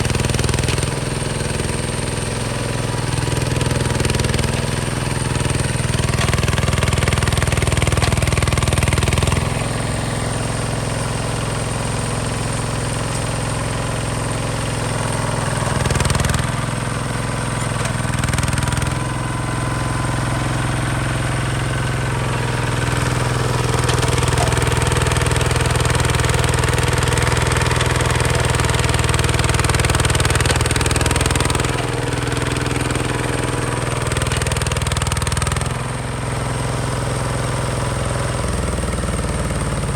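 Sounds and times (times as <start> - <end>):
tractor diesel engine thumping: 0.0 - 39.9.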